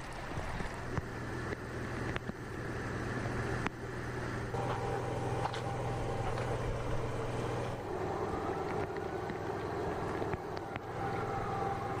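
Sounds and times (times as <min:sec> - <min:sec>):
floodwater rushing along gutter: 0:00.0 - 0:12.0.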